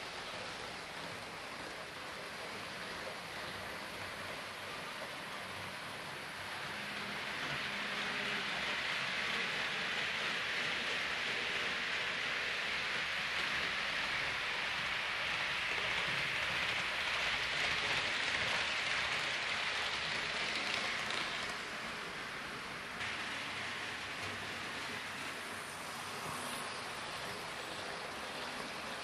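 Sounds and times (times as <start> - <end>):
model train running on track: 0.0 - 29.0.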